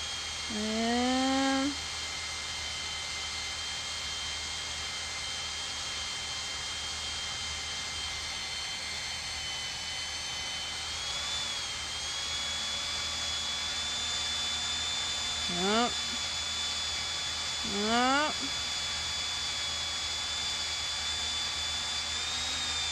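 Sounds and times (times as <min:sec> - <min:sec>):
drill boring through steel: 0:00.0 - 0:22.9.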